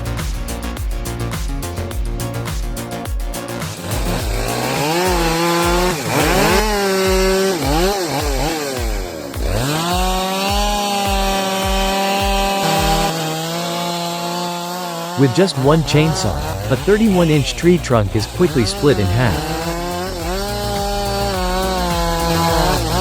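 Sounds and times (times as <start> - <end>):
background music with steady beat: 0.0 - 13.7, 15.2 - 23.0
chainsaw cutting wood: 0.0 - 23.0.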